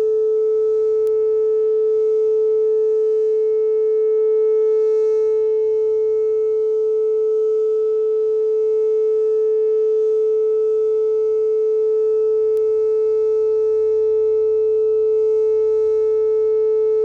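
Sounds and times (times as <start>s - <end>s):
warning siren steady tone: 0.0s - 17.0s.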